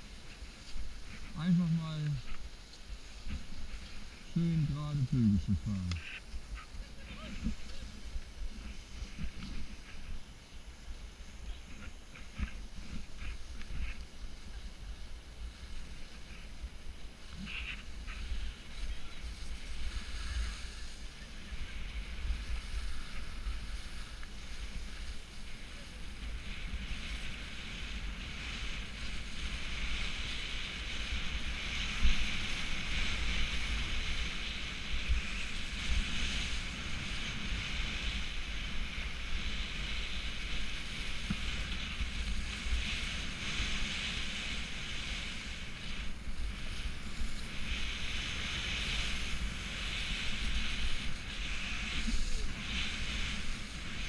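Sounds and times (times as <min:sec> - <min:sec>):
skis scraping over slush: 0:00.0 - 0:54.0.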